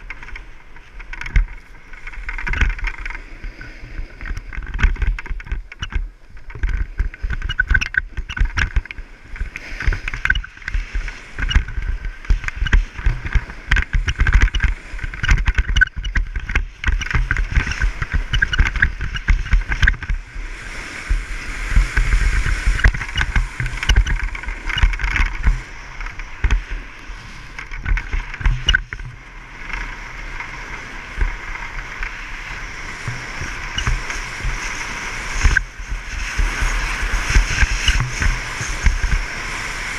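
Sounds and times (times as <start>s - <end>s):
skis scraping over packed snow: 0.0s - 39.9s
wind buffeting microphone: 0.0s - 39.9s.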